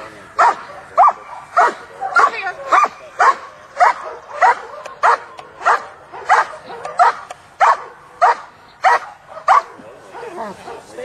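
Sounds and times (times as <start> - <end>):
dog barking: 0.4 - 10.9.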